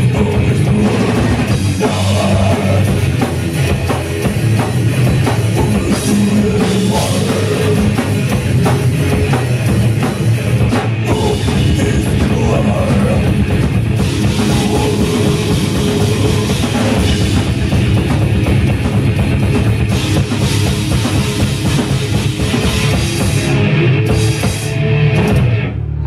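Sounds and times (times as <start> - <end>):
drum kit: 0.0 - 26.0
electric guitars: 0.0 - 26.0.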